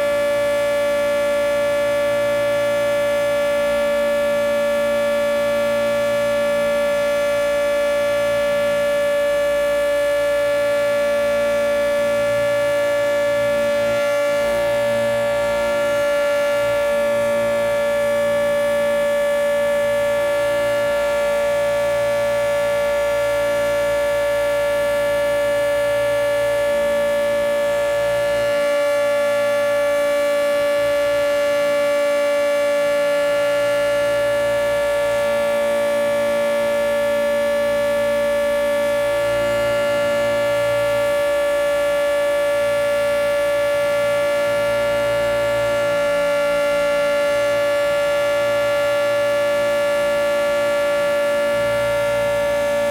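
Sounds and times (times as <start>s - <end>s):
two-tone warning siren: 0.0s - 52.9s.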